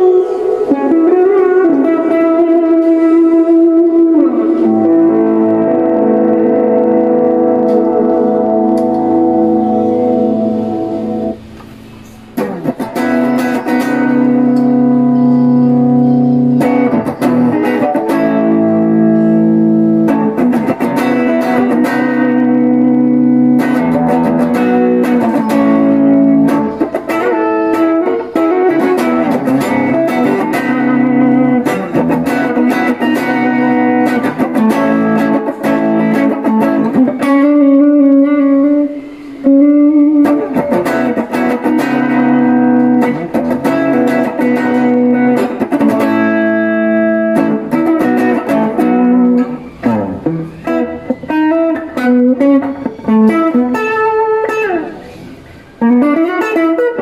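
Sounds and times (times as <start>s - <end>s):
distorted electric guitar lead: 0.0s - 57.0s.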